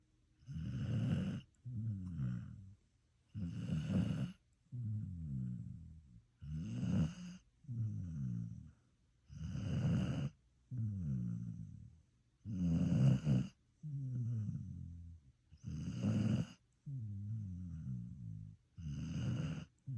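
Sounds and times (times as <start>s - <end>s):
dog snoring: 0.4s - 19.9s.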